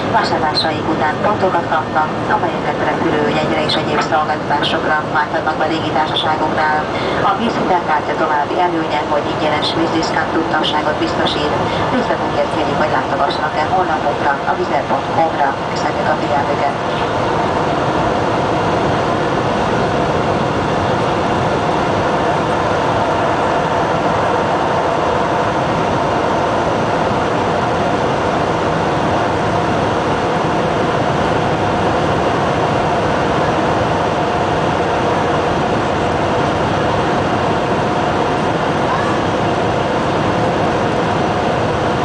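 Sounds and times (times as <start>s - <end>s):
airplane cabin air rush: 0.0s - 42.0s
jet engines droning: 0.0s - 42.0s.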